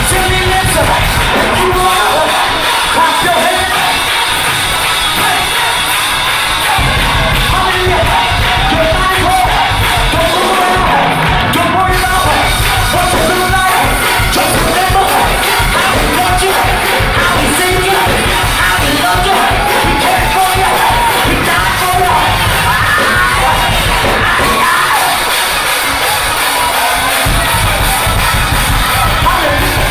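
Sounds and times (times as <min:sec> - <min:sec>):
gospel choir singing: 0:00.0 - 0:28.3
bass guitar: 0:00.0 - 0:29.9
drums: 0:00.0 - 0:29.9.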